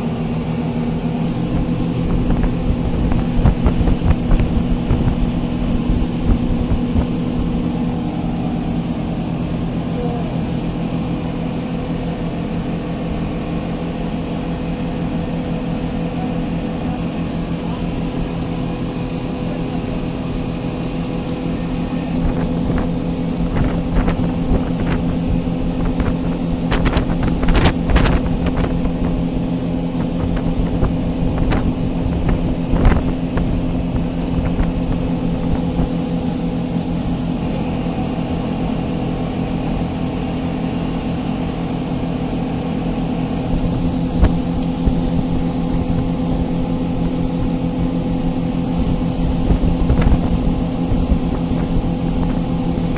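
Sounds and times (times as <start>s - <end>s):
motorboat engine humming: 0.0s - 52.9s.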